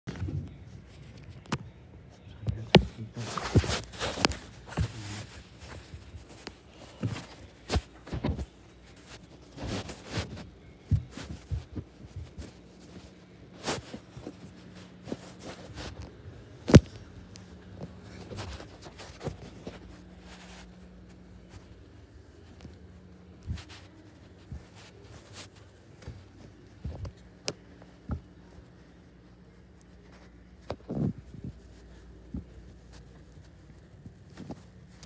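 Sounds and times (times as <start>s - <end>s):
faint low hum: 0.1s - 35.0s
footsteps: 2.5s - 35.0s.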